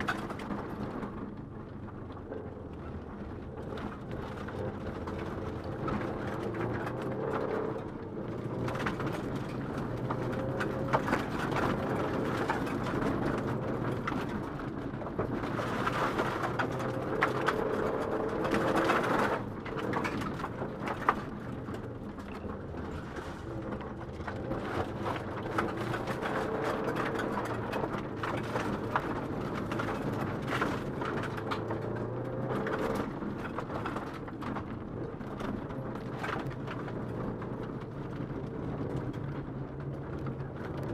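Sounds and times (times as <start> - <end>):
car engine driven hard: 0.0 - 40.9
gravel clattering against underside: 0.0 - 40.9.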